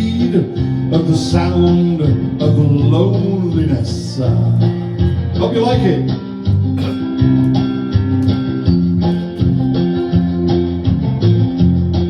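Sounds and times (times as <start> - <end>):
bass line: 0.0 - 12.0
strummed guitar chords: 0.0 - 12.0.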